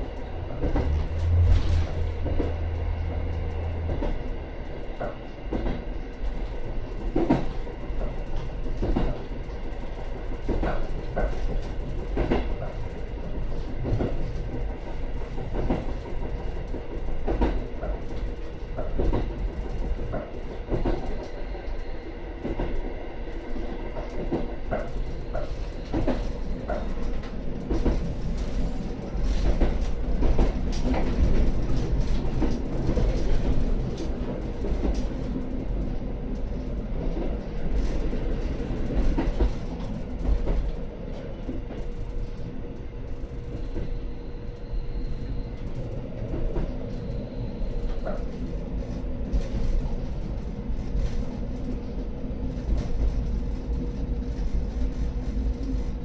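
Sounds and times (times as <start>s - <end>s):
railcar engine rumble: 0.0s - 56.0s.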